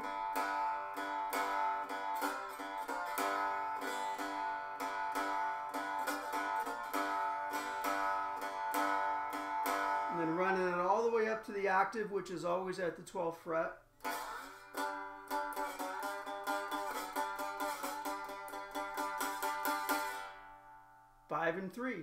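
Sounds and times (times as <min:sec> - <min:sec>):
picked resonator guitar notes: 0:00.0 - 0:21.5.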